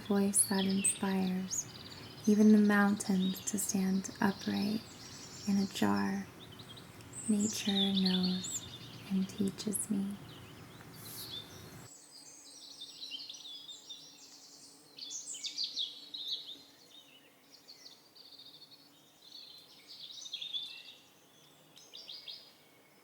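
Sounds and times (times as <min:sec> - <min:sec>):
songbirds trilling: 0:00.0 - 0:23.0.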